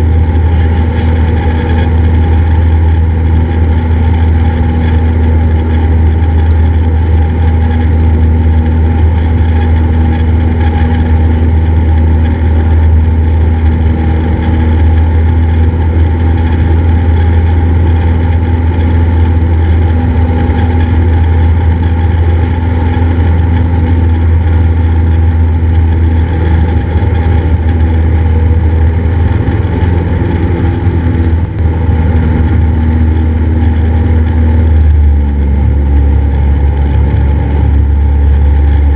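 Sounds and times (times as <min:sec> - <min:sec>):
aircraft engine droning in cockpit: 0:00.0 - 0:38.9.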